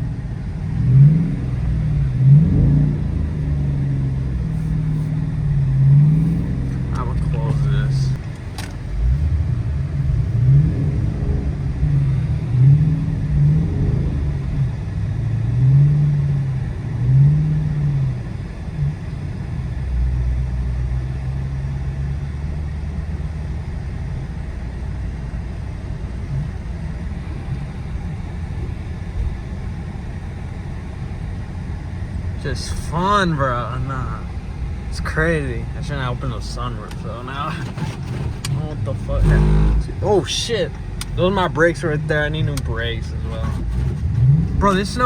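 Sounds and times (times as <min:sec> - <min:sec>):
car engine revving from inside: 0:00.5 - 0:08.2, 0:08.8 - 0:24.4, 0:31.3 - 0:45.0.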